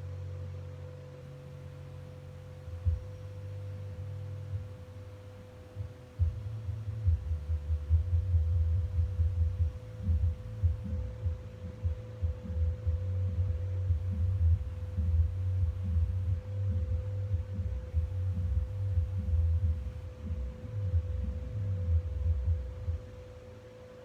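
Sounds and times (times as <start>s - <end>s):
air rumble from fan blades: 0.0s - 24.0s
ceiling fan motor hum: 0.0s - 24.0s.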